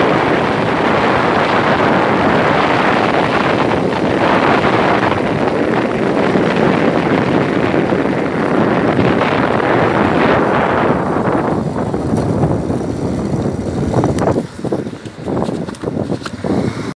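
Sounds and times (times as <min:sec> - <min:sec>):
vehicle road noise: 0:00.0 - 0:16.9
wind rushing over microphone: 0:00.0 - 0:16.9.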